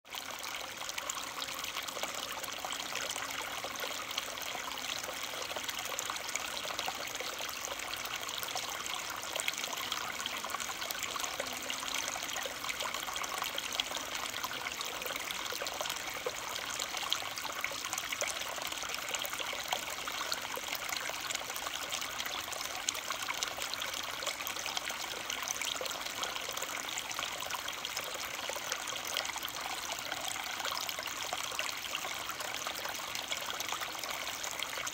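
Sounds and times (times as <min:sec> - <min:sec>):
running water trickling: 0:00.1 - 0:34.9.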